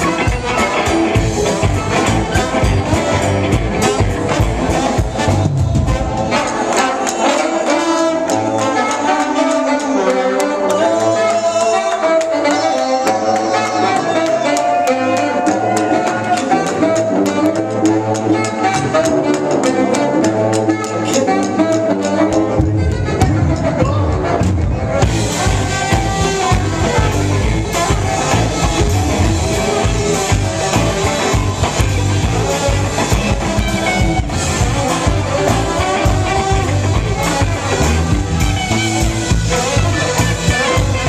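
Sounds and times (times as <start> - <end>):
bass and drums beat: 0.0 - 7.2, 14.6 - 41.0
horn section melody: 0.0 - 41.0.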